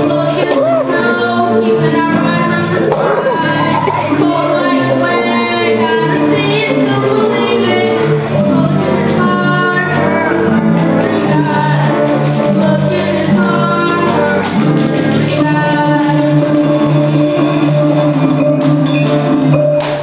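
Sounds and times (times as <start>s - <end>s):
music with singing: 0.0s - 20.0s.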